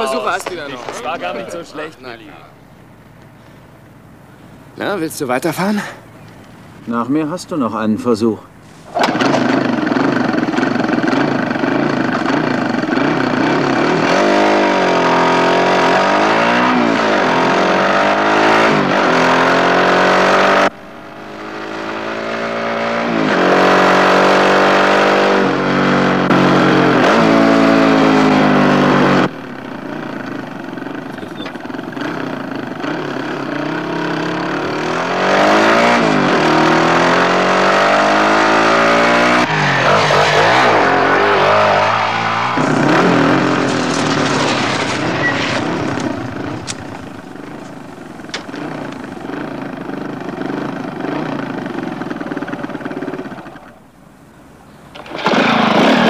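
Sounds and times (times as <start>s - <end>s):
dirt bike engine revving: 8.9s - 53.7s, 55.0s - 56.0s.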